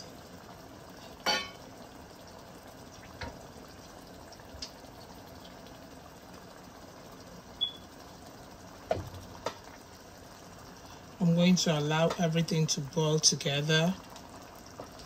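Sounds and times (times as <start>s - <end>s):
soup bubbling in pot: 0.0s - 15.0s.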